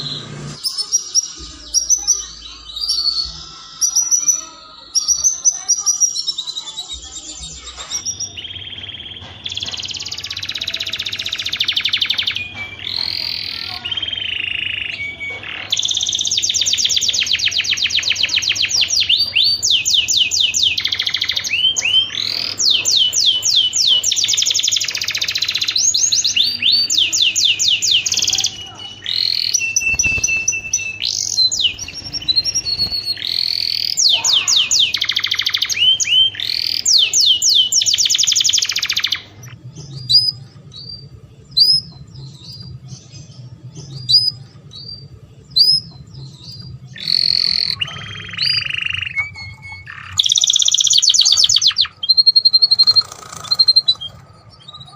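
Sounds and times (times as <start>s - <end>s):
canary singing in rapid trills: 0.0s - 54.9s.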